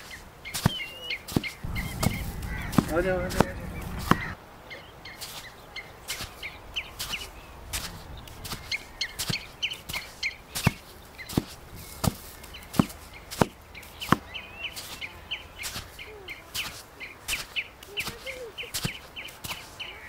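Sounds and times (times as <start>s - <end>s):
small birds chirping: 0.0s - 20.0s
footsteps on dirt path: 0.7s - 4.4s, 5.2s - 20.0s.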